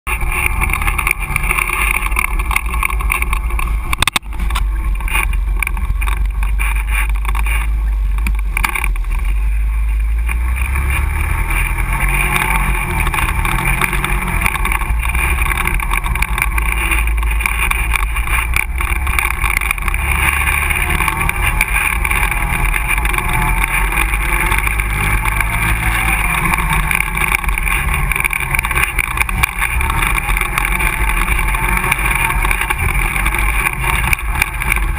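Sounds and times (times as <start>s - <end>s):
quad engine running: 0.0s - 34.9s.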